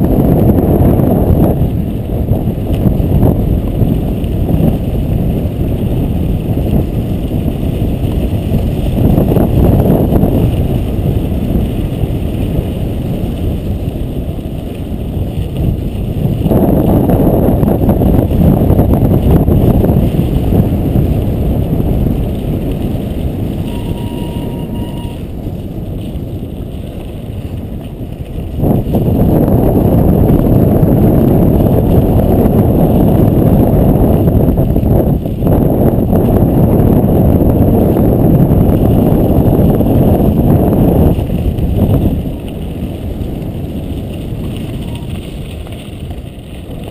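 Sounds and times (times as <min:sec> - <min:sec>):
road rumble: 0:00.0 - 0:46.9
wind buffeting microphone: 0:00.0 - 0:46.9.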